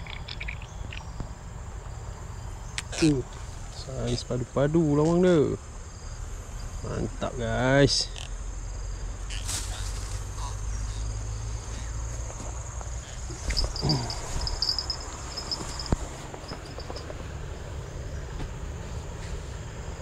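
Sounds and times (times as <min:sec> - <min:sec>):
insects droning: 0:00.0 - 0:20.0
pulsing insect call: 0:00.0 - 0:20.0.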